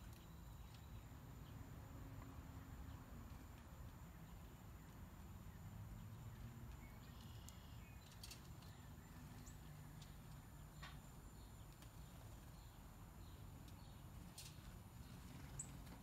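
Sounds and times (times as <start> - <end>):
faint bird chirps: 0.0 - 1.6, 4.1 - 16.0.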